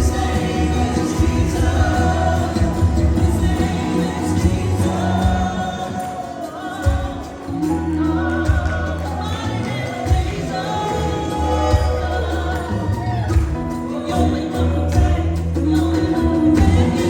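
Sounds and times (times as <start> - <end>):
band with bass and drums: 0.0 - 17.0
gospel voices singing: 0.0 - 17.0.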